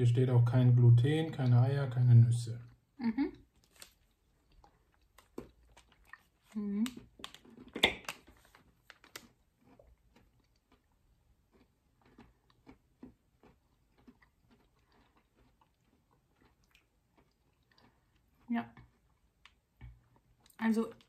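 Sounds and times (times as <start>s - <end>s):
crunchy chewing clicks: 3.5s - 21.0s.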